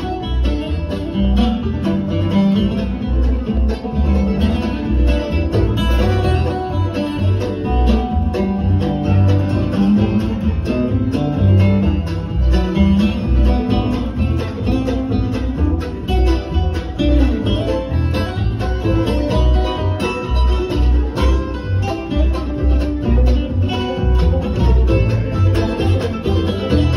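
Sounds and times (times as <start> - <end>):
flat-picked guitar: 0.0 - 26.9
mandolin: 0.0 - 26.9
picked banjo: 0.0 - 26.9
plucked upright bass: 0.0 - 26.9.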